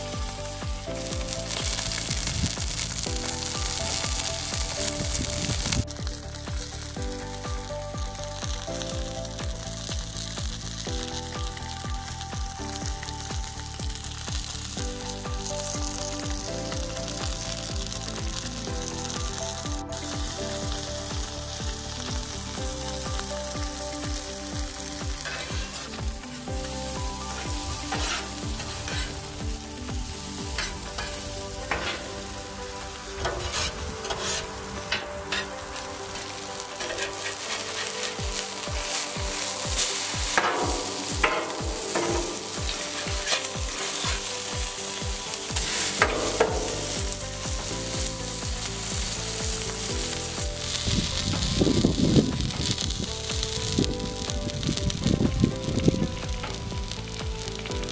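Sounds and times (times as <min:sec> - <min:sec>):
fish sizzling on a griddle: 0:00.0 - 0:57.9.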